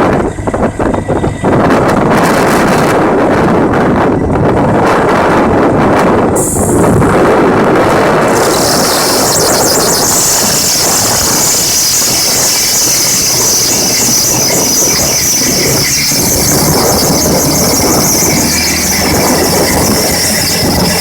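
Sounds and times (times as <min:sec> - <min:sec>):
gyrocopter engine and propeller: 0:00.0 - 0:21.0.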